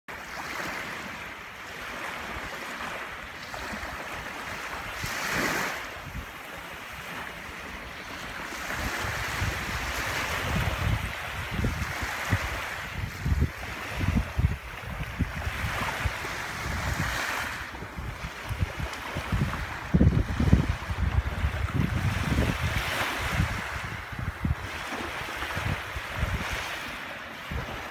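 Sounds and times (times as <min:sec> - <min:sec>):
small waves washing on sand: 0:00.1 - 0:27.9
wind buffeting microphone: 0:01.8 - 0:27.9.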